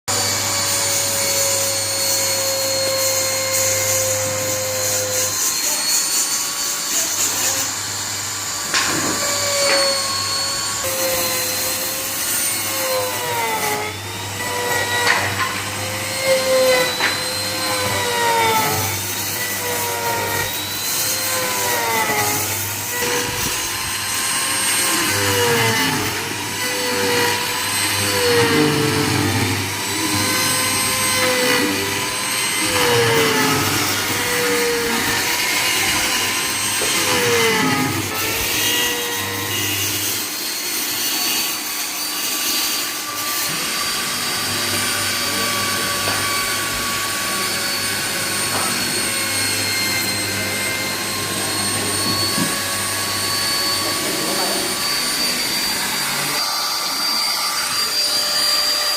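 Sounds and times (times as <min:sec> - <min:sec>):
power tool motor whining: 0:00.1 - 0:58.9.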